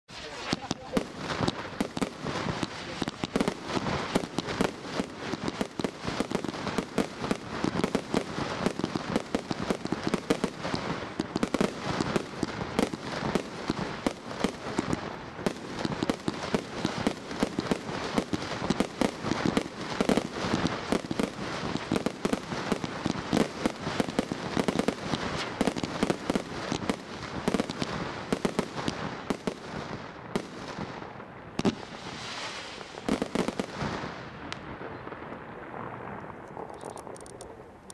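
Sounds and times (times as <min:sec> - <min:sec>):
firework bangs and crackle: 0:00.1 - 0:37.9.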